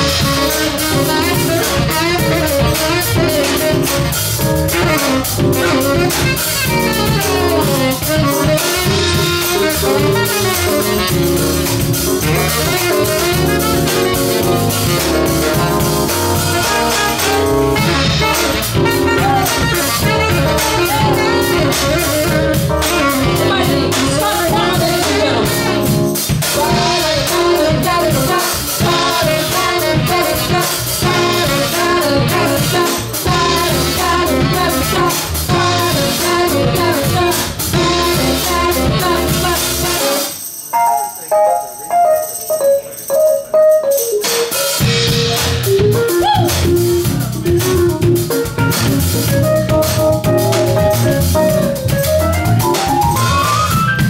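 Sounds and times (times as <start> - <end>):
jazz band playing: 0.0 - 54.0.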